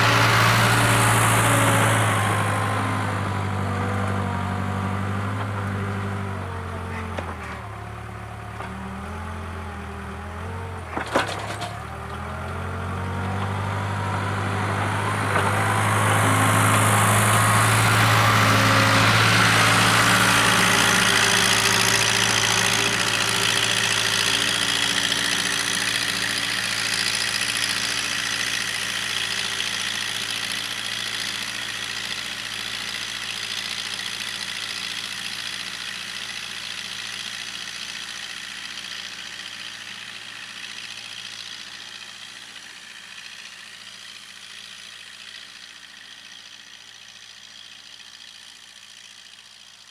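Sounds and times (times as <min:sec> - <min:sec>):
diesel engine running: 0:00.0 - 0:49.6.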